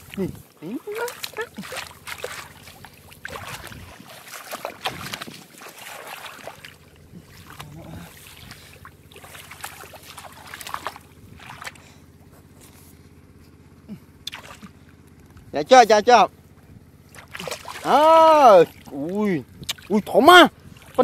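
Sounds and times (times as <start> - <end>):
small splashes and slaps: 0.0 - 12.1, 14.2 - 15.5, 17.0 - 21.0
hands squelching in muddy water: 0.0 - 15.5, 17.0 - 21.0.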